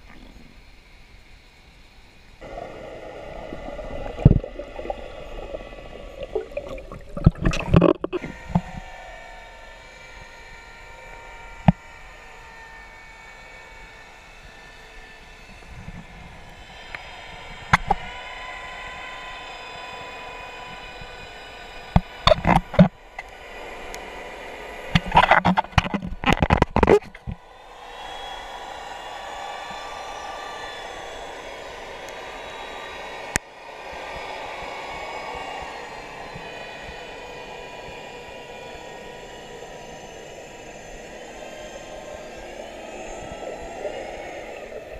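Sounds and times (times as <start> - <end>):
muffled underwater hum: 0.0 - 44.9.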